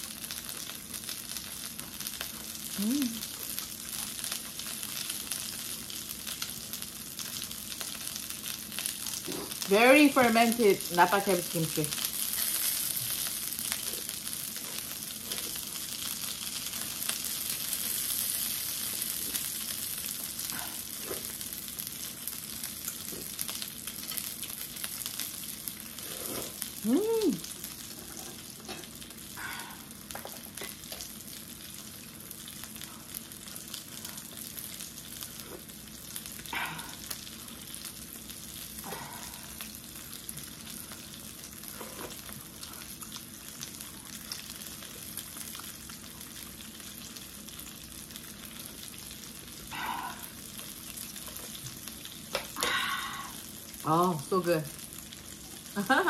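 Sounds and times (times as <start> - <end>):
dumplings sizzling in oil: 0.0 - 56.0.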